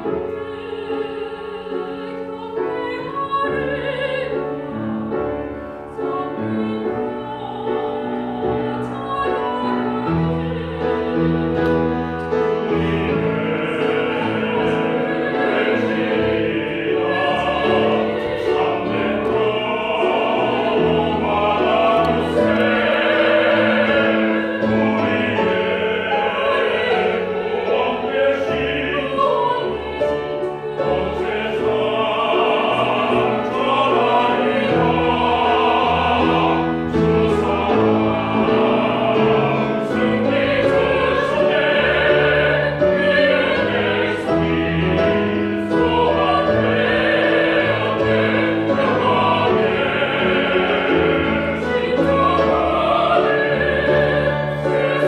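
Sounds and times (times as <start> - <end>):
choir singing operatic sacred song: 0.0 - 55.0.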